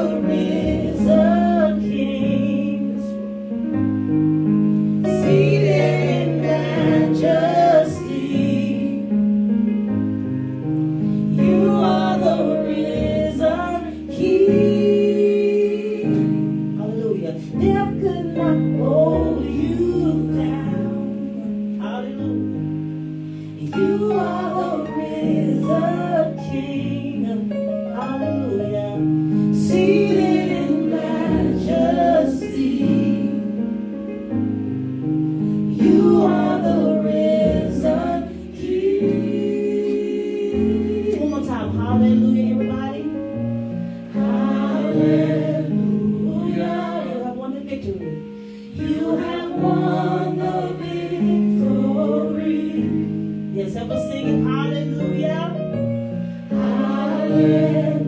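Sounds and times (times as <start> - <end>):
gospel singing: 0.0 - 58.0.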